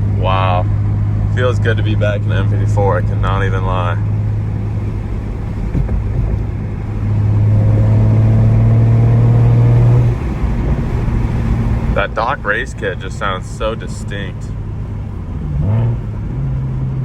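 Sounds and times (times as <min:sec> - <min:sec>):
car engine at highway speed: 0:00.0 - 0:17.0.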